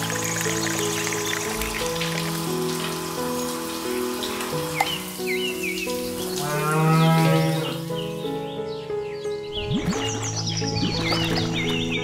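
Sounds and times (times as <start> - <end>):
water trickling and pattering: 0.0 - 8.2, 9.6 - 12.0
background music simple melody: 0.0 - 12.0.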